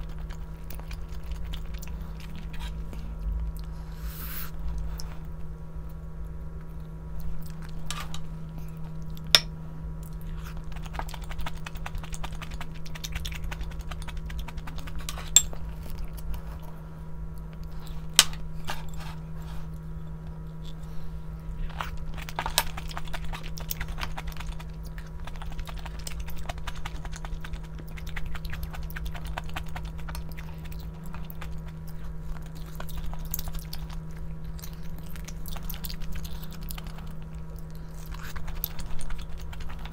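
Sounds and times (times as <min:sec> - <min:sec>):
person chewing food: 0:00.0 - 0:06.0, 0:06.6 - 0:09.4, 0:10.0 - 0:39.9
low hum: 0:00.0 - 0:39.9.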